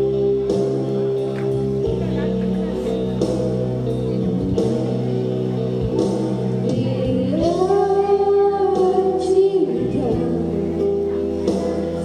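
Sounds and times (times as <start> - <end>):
instrumental backing music: 0.0 - 12.0.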